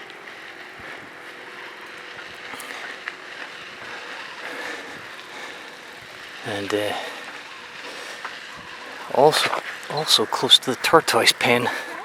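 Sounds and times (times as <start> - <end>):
bicycle tyres on path: 0.0 - 12.0.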